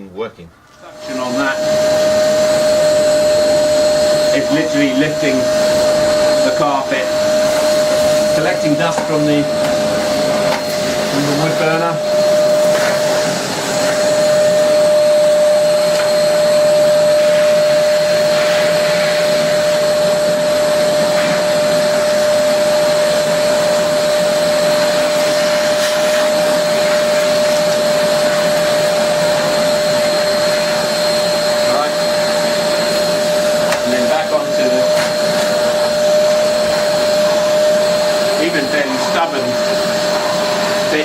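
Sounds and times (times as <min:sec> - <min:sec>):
vacuum motor whine: 0:00.7 - 0:41.0.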